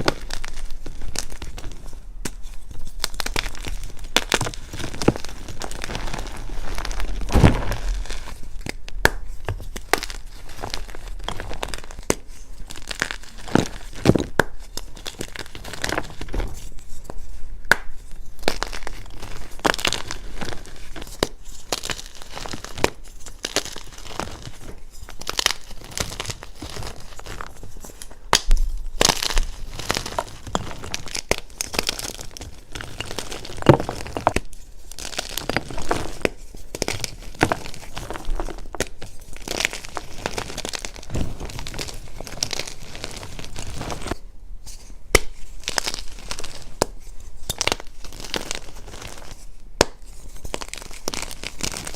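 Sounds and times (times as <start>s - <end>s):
chalk crunching and crackling: 0.0s - 51.9s.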